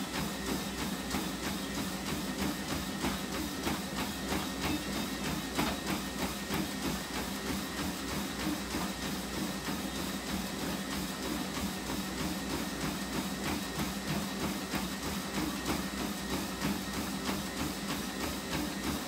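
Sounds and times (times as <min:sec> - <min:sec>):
treadmill motor and belt whirring: 0:00.0 - 0:19.0
running footfalls thudding: 0:00.1 - 0:19.0.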